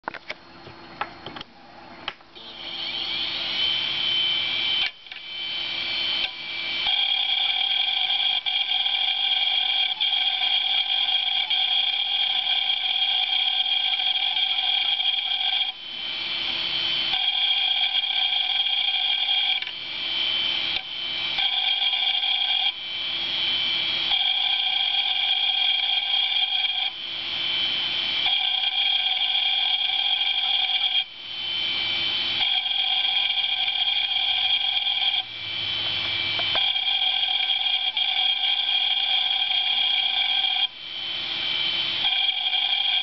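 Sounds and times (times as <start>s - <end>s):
hard disk drive whining: 0.1s - 43.0s
rough hard drive noise: 0.1s - 43.0s.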